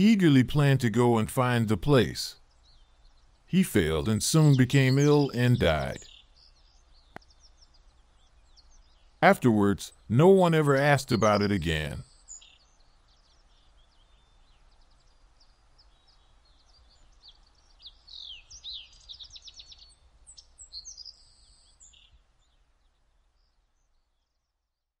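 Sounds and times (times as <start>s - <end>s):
small birds chirping: 0.0s - 24.6s.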